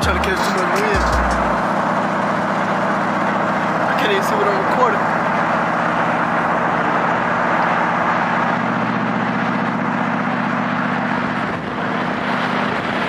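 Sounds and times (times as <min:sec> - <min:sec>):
car engine running: 0:00.0 - 0:13.0
wind and road noise: 0:00.0 - 0:13.0.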